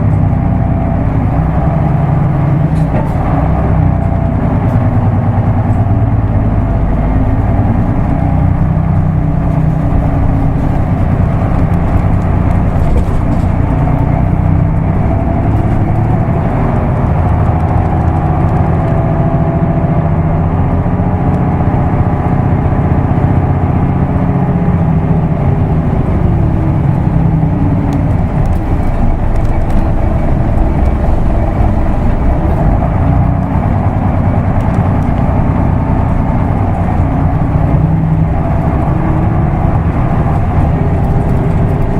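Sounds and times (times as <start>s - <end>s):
bus diesel engine: 0.0s - 41.9s
road noise inside bus: 0.0s - 41.9s.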